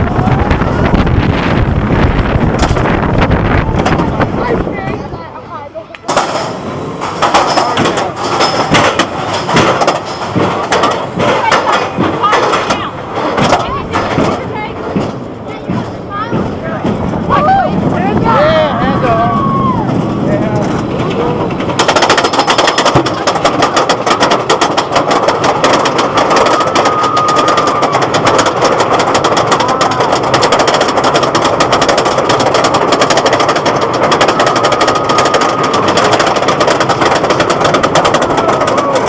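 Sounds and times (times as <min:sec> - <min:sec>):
roller coaster clattering on track: 0:00.0 - 0:39.0.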